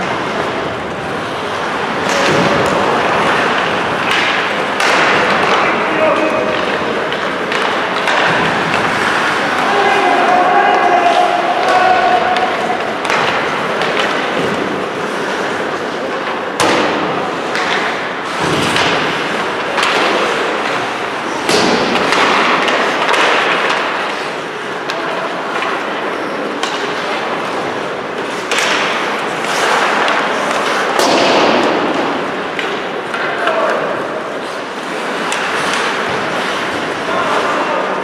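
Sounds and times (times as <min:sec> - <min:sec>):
sharp knocks of sticks and puck: 0:00.0 - 0:37.7
skates scraping across ice: 0:00.0 - 0:38.0.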